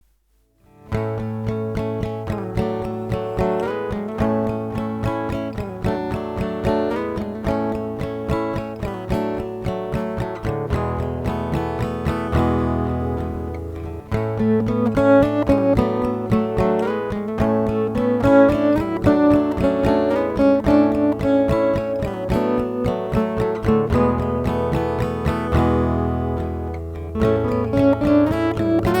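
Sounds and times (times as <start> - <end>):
strummed acoustic guitar tune: 0.6 - 29.0.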